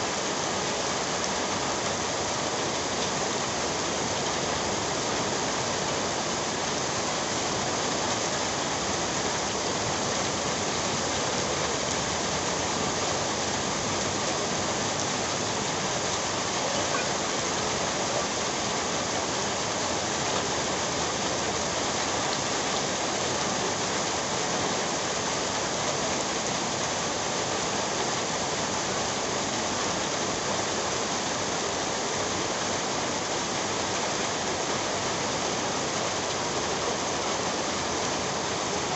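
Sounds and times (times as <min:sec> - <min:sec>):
heavy rain on pavement: 0:00.0 - 0:38.9.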